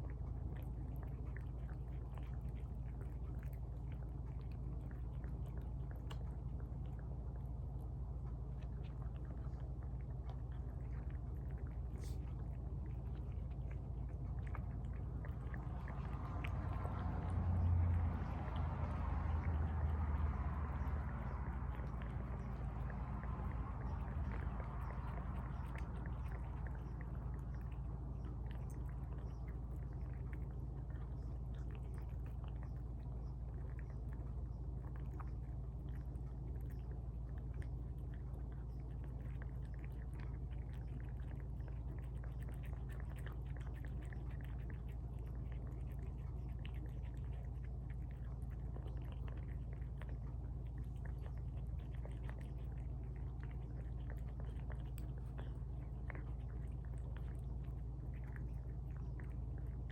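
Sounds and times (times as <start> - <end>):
cats chewing and licking: 0.0 - 59.9
constant low hum: 0.0 - 59.9.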